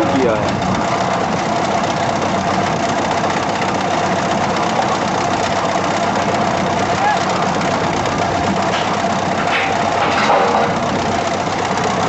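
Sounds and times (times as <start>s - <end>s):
heavy machine engine running: 0.0s - 12.0s
steady whine: 0.0s - 12.0s.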